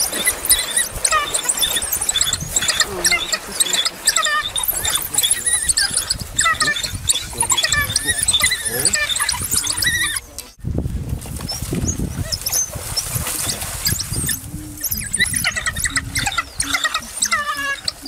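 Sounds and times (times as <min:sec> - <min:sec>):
wild dogs twittering: 0:00.0 - 0:10.6, 0:12.2 - 0:18.0.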